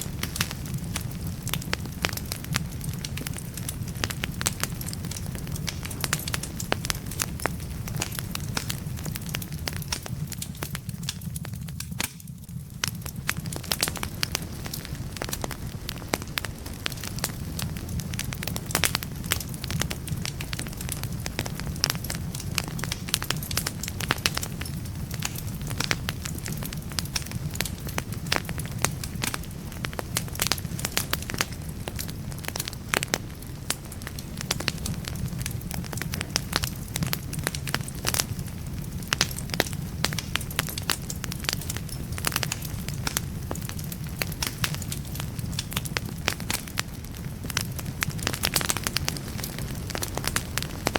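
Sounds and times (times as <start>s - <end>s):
firewood crackling in fireplace: 0.0s - 50.9s
low rumble of flames: 0.0s - 50.9s.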